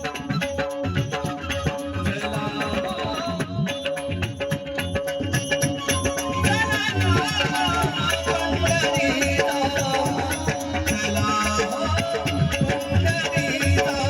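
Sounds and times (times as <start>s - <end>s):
fast percussion: 0.0s - 14.0s.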